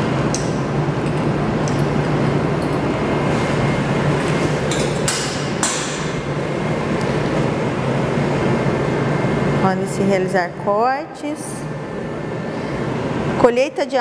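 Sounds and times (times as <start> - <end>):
ventilation noise with low hum: 0.0 - 14.0.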